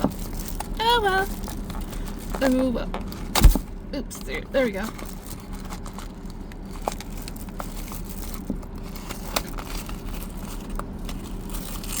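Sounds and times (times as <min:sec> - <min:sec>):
packaging crackling: 0:00.0 - 0:03.7, 0:04.8 - 0:12.0.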